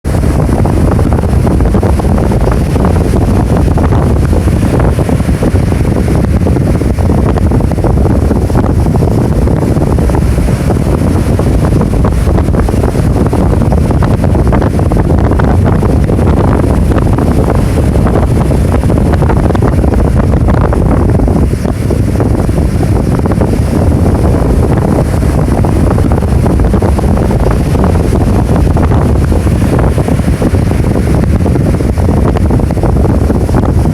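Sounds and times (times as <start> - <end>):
heavy surf: 0.0 - 33.9
wind buffeting microphone: 0.0 - 33.9.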